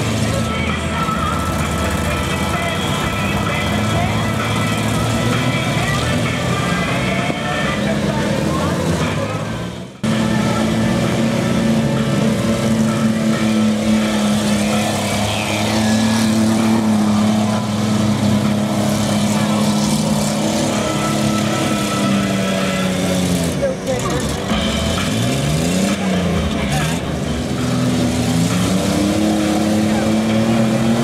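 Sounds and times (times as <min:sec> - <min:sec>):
car engines droning: 0:00.0 - 0:31.0.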